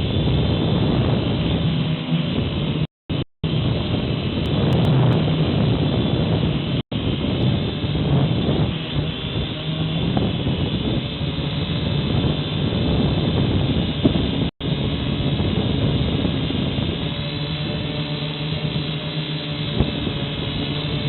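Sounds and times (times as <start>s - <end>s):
quadcopter motors and propellers: 0.0s - 21.0s.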